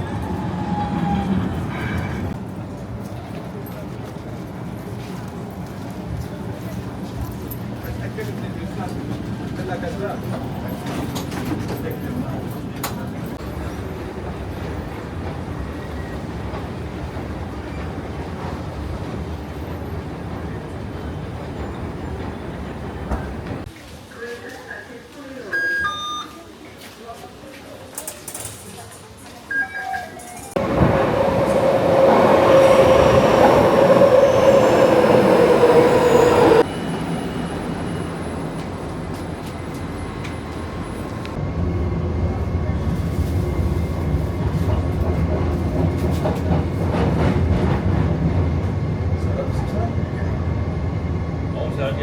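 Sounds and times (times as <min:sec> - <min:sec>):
moving train rumble: 0:00.0 - 0:23.7, 0:30.5 - 0:52.0.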